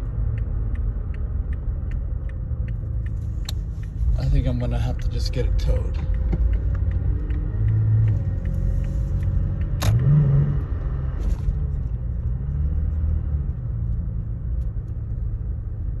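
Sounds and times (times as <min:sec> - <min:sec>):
engine running with wavering hum: 0:00.0 - 0:16.0.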